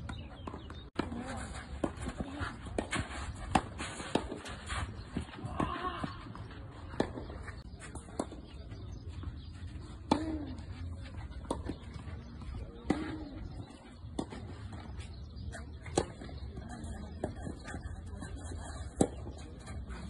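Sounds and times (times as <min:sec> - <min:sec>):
tennis ball bounces: 0:00.0 - 0:17.8
tennis balls hit by rackets: 0:00.0 - 0:20.0.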